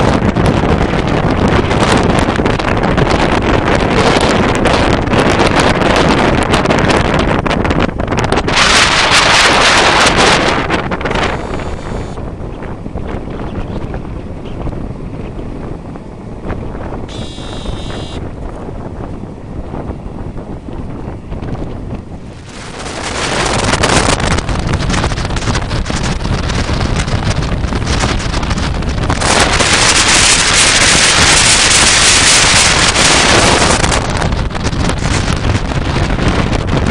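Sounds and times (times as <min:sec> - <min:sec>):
train running rumble: 0:00.0 - 0:36.9
wind noise on microphone: 0:00.0 - 0:36.9.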